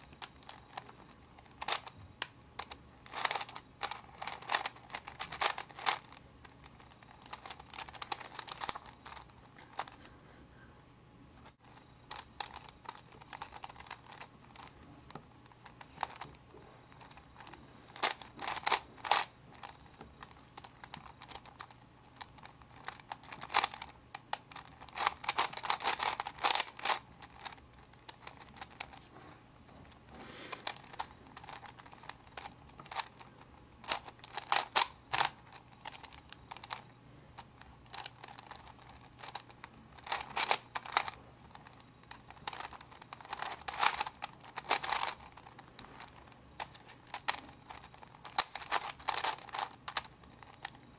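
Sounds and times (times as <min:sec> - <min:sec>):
puzzle cube clicking: 0:00.0 - 0:10.0, 0:12.1 - 0:14.8, 0:15.4 - 0:29.1, 0:30.0 - 0:50.8.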